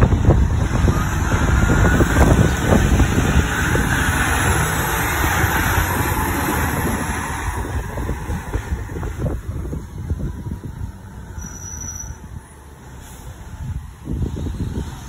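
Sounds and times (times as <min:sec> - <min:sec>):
diesel truck engine passing: 0:00.0 - 0:15.0
wind buffeting microphone: 0:00.0 - 0:15.0.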